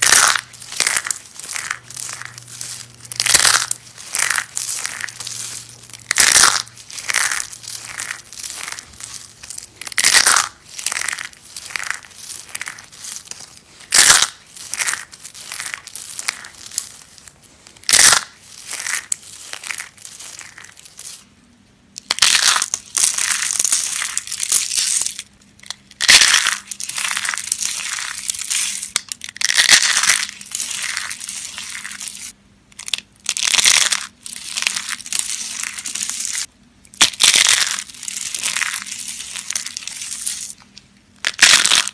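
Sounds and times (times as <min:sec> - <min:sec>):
soap being crushed: 0:00.0 - 0:21.3, 0:21.9 - 0:41.9.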